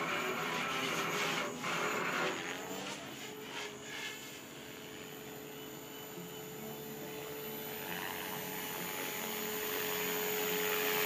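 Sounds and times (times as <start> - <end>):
rc helicopter motor whine: 0.0 - 11.0
rushing rotor blade noise: 0.0 - 11.0.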